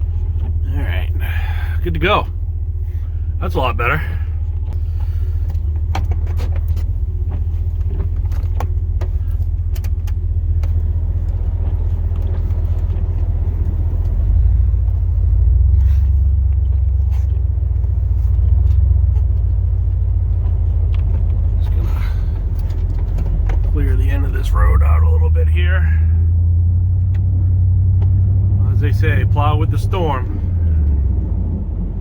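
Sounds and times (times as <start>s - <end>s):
truck engine rumbling: 0.0s - 32.0s.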